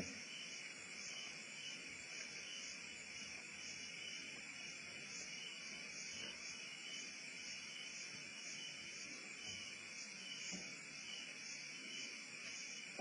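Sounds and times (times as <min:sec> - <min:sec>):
night insects droning: 0:00.0 - 0:13.0.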